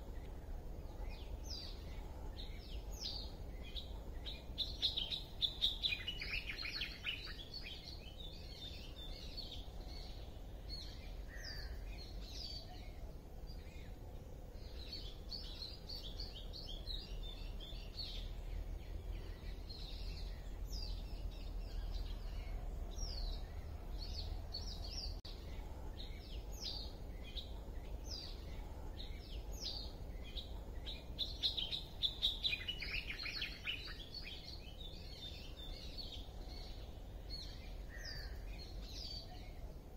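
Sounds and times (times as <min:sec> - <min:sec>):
low steady rumble: 0:00.0 - 0:39.9
small birds chirping and calling: 0:00.0 - 0:39.9.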